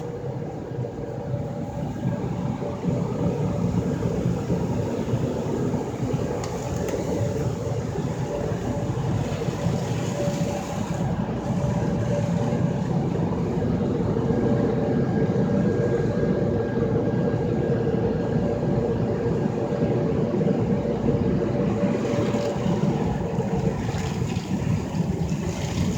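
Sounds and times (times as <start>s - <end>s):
car wash machine rumble: 0.0s - 25.9s
pump whine: 0.0s - 25.9s.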